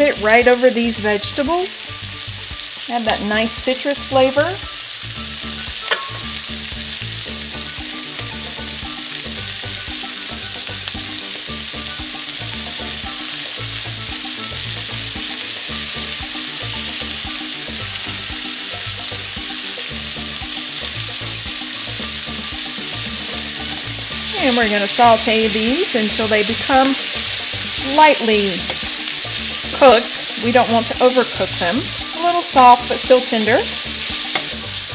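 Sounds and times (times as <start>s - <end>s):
soft background music: 0.0s - 34.9s
vegetables sizzling in pan: 0.0s - 34.9s.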